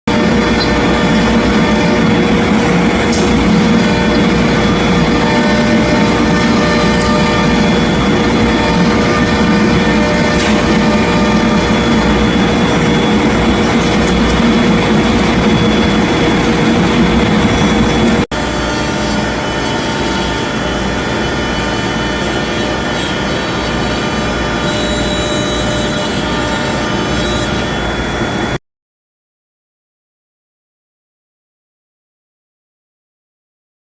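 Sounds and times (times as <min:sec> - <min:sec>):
cnc router cutting wood: 0:00.1 - 0:28.6.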